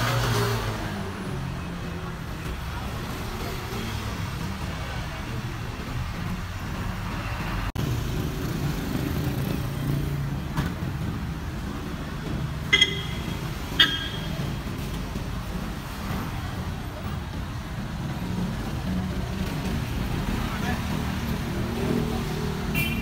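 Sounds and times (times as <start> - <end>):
motorcycle engine: 0.0 - 23.0
street traffic rumbling: 0.0 - 23.0.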